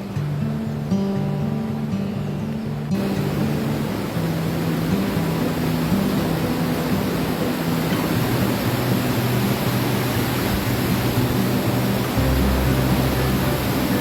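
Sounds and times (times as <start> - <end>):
low background music: 0.0 - 14.0
river water pouring over a weir: 0.0 - 14.0.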